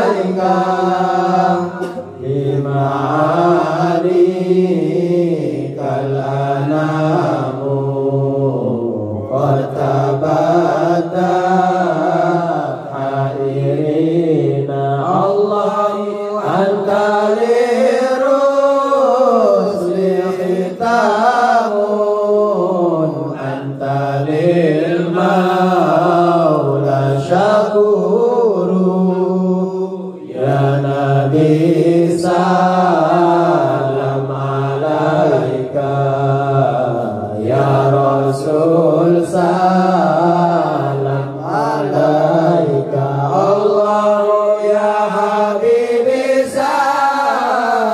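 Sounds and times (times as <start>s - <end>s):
men chanting in unison: 0.0s - 47.9s.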